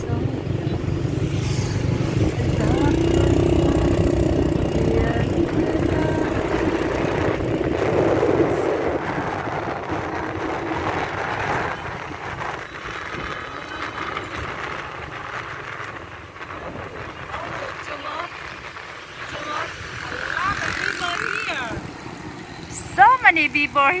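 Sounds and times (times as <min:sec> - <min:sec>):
motorbike engine: 0:00.0 - 0:24.0
road traffic noise: 0:00.0 - 0:24.0.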